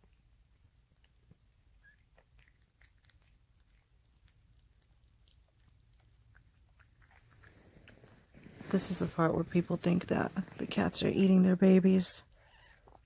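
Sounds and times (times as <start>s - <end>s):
cat wet chewing: 0.0s - 10.7s.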